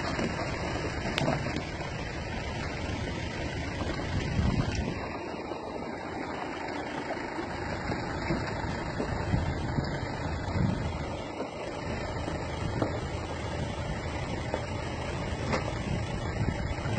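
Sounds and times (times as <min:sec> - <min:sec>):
truck rumbling past: 0:00.0 - 0:16.9.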